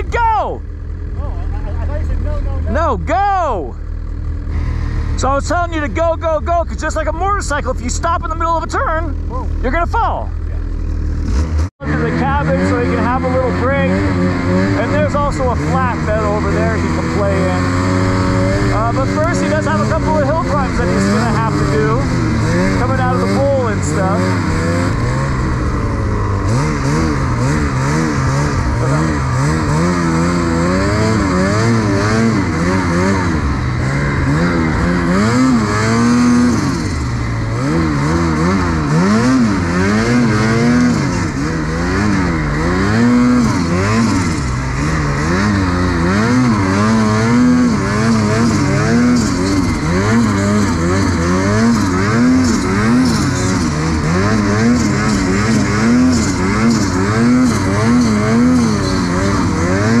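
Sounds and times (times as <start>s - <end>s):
snowmobile engine revving: 0.0s - 60.0s.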